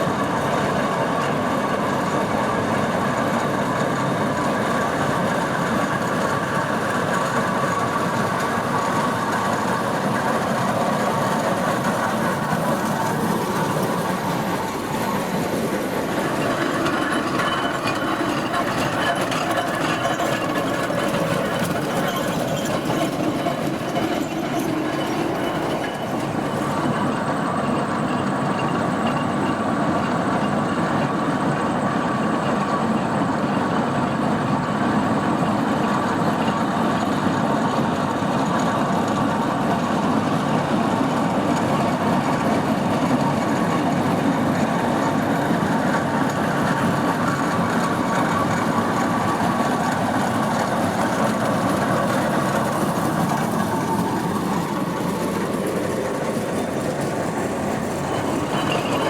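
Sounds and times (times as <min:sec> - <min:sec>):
steam traction engine running: 0:00.0 - 0:59.0.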